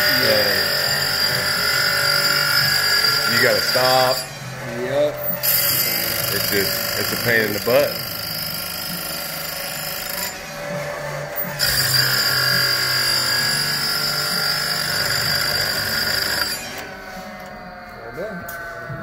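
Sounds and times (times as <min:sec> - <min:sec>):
grinding wheel hissing on chain: 0:00.0 - 0:10.4, 0:11.3 - 0:17.3.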